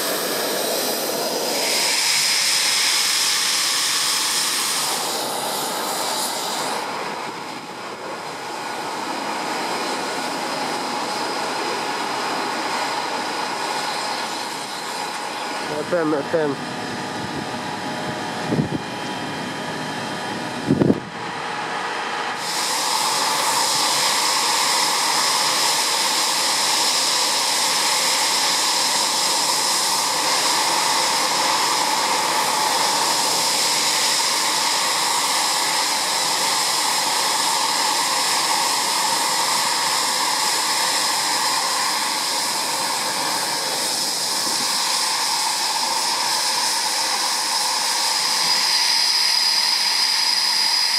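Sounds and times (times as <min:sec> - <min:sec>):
jet engines high whine: 0:00.0 - 0:50.9.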